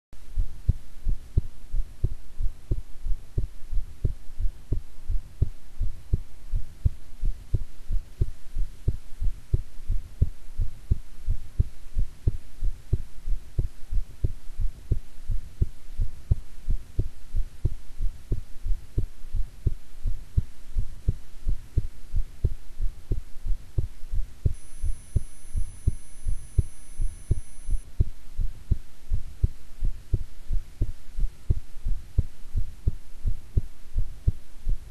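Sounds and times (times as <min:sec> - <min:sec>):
faint hum: 0:00.2 - 0:34.9
heartbeat thumps: 0:00.2 - 0:34.9.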